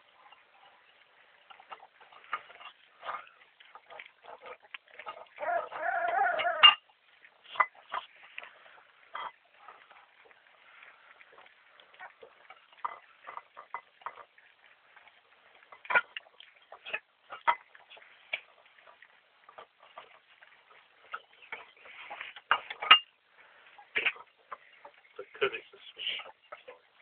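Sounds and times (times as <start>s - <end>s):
puppies chewing: 0.0s - 27.0s.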